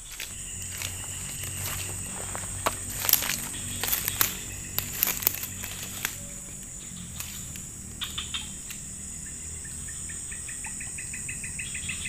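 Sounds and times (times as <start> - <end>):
insect drone: 0.0 - 12.0
rapid insect chirping: 0.0 - 12.0.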